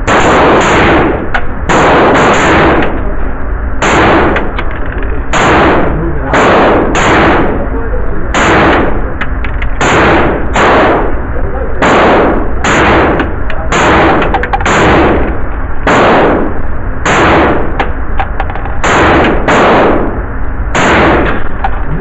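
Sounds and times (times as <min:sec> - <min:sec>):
gunshots echoing indoors: 0:00.0 - 0:03.2, 0:03.8 - 0:04.7, 0:05.3 - 0:18.2, 0:18.8 - 0:22.0.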